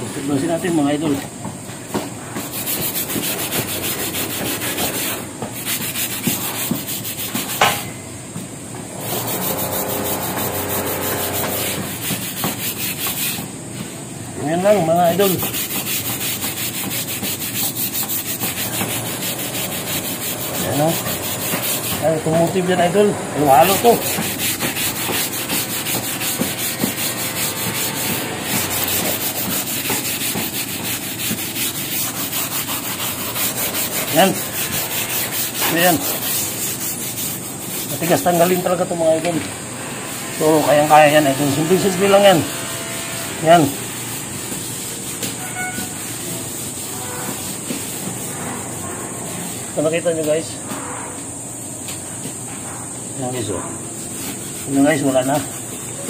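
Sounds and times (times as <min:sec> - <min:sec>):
hand brush scrubbing tiles: 0:02.0 - 0:07.7, 0:09.0 - 0:13.5, 0:14.6 - 0:39.4, 0:40.3 - 0:50.4, 0:53.3 - 0:56.0.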